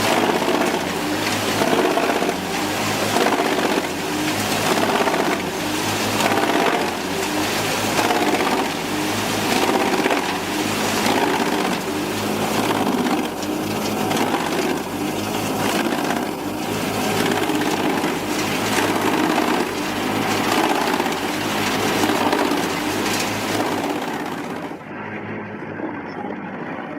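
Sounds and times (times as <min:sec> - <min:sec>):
heavy machine engine under load: 0:00.0 - 0:24.9
wood crushing and splintering: 0:00.0 - 0:24.9.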